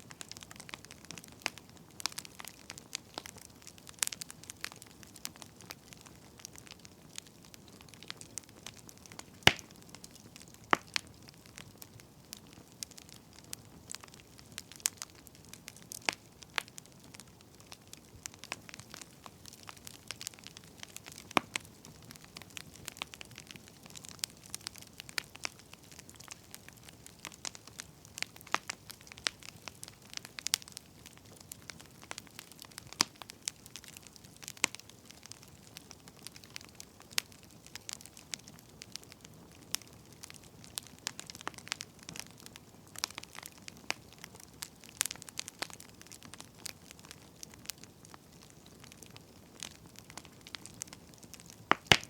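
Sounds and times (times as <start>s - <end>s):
firewood crackling and popping: 0.0s - 52.0s
soft steady hiss: 0.0s - 52.0s.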